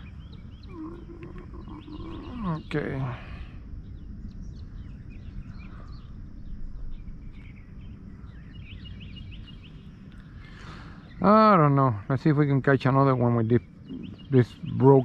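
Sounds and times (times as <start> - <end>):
low rumble: 0.0 - 15.0
small birds chirping: 0.0 - 15.0.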